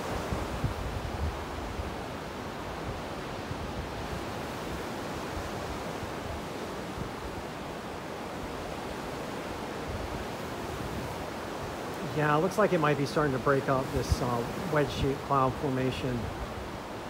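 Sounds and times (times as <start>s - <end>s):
small waves breaking on beach: 0.0s - 17.0s
wind on microphone: 0.0s - 17.0s.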